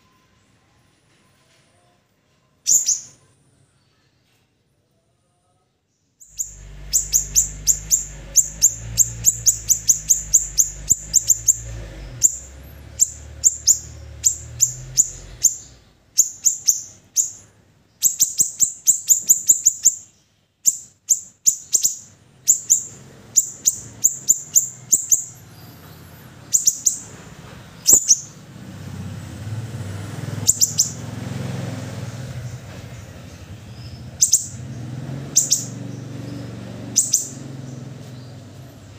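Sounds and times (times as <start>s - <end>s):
songbird high sharp chirps: 2.6s - 3.3s, 6.2s - 28.5s, 30.1s - 38.9s.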